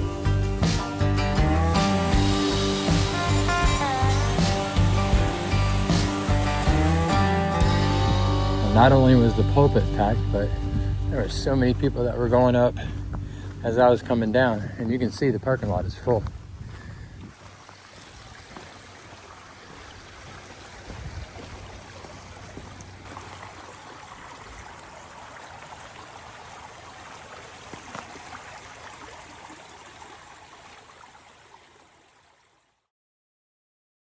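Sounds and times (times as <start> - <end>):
stream flowing: 0.8 - 15.2, 17.2 - 32.9.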